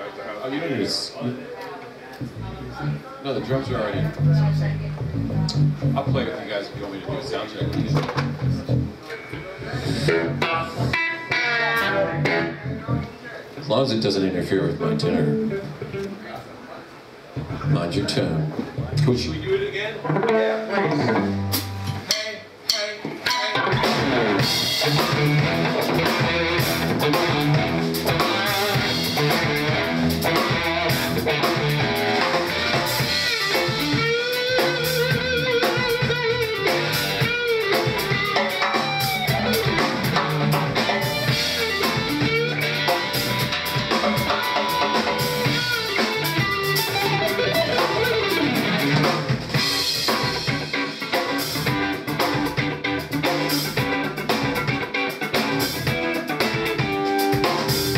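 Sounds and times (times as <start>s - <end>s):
electric guitar: 3.6s - 6.3s, 6.9s - 13.2s, 14.8s - 16.5s, 20.0s - 22.2s, 23.1s - 57.9s
drum kit: 3.7s - 13.2s, 20.0s - 57.9s.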